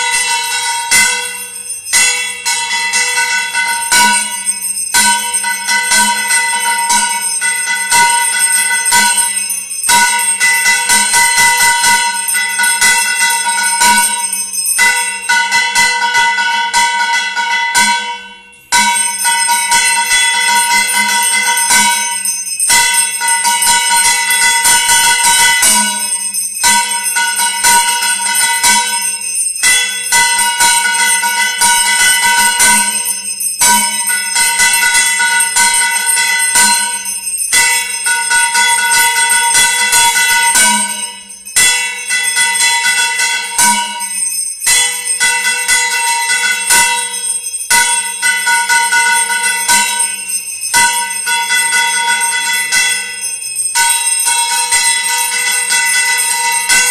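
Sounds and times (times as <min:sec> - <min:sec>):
temple bell rung rapidly: 0:00.0 - 0:56.9.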